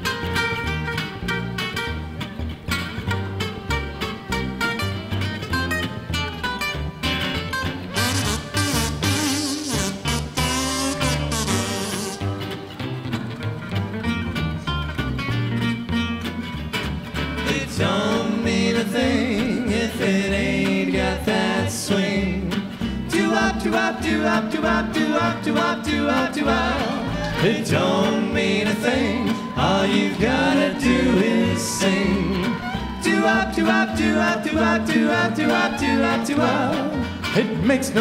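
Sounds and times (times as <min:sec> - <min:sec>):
acoustic guitars strumming: 0:00.0 - 0:38.0
walking upright bass: 0:00.0 - 0:38.0.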